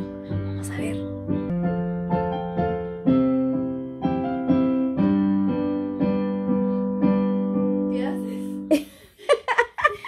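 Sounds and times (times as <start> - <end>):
digital piano slow melody: 0.0 - 9.0.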